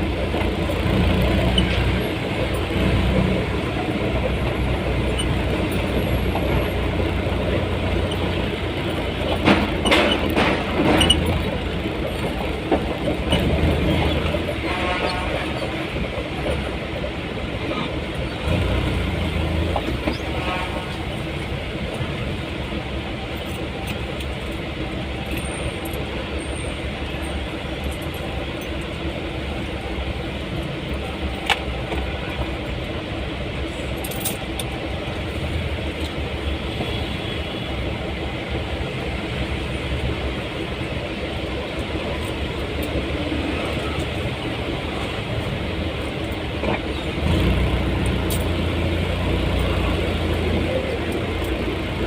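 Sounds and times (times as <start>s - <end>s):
vehicle rumbling on road: 0.0s - 52.0s.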